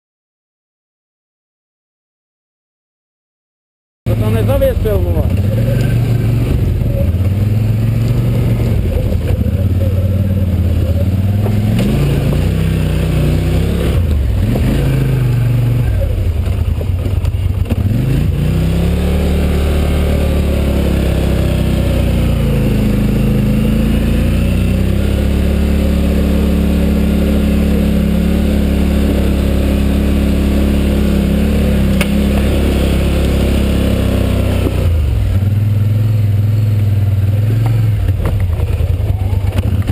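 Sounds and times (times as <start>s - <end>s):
quad bike engine revving uphill: 4.1s - 39.9s.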